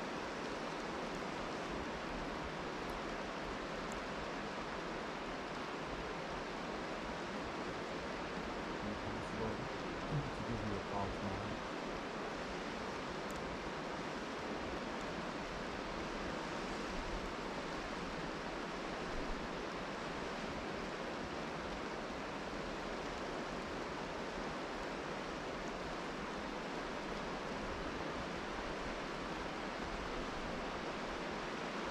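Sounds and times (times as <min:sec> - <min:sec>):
rain falling: 0:00.0 - 0:31.9
river rushing over rocks: 0:00.0 - 0:31.9.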